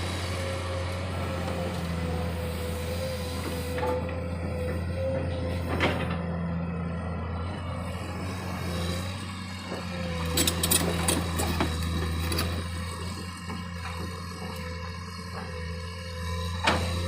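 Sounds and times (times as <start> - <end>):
machine engine humming: 0.0 - 17.0.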